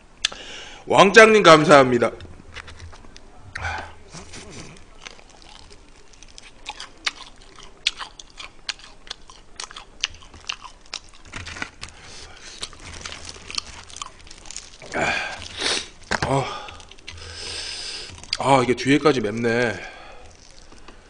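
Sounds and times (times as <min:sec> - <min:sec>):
crunchy chewing of fried chicken: 0:02.5 - 0:21.0.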